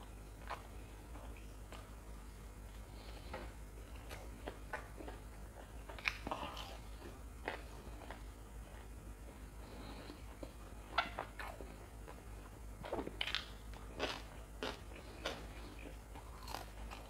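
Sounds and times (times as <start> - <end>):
crunchy chewing of fried food: 0.0 - 17.0.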